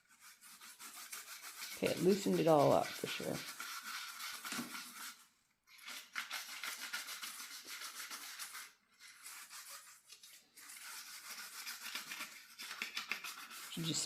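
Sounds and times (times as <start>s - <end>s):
brush scrubbing metal filter: 0.0s - 14.0s.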